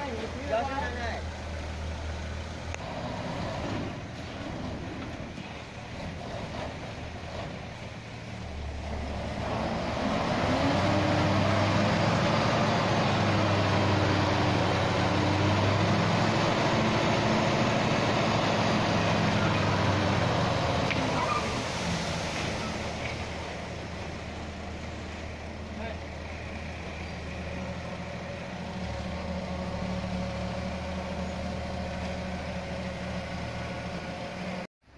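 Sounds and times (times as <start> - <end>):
diesel truck engine revving: 1.2 - 34.7.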